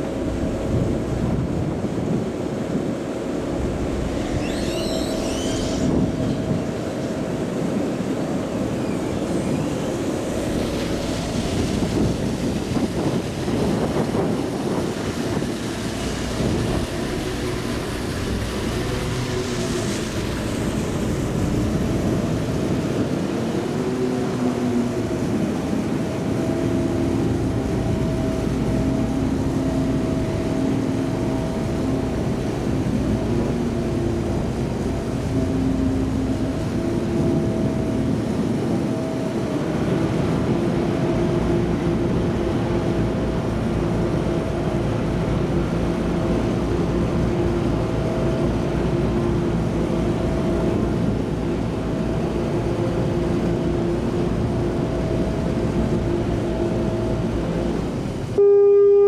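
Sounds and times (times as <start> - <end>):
rush of wind and water: 0.0 - 59.0
ship engines droning: 0.0 - 59.0.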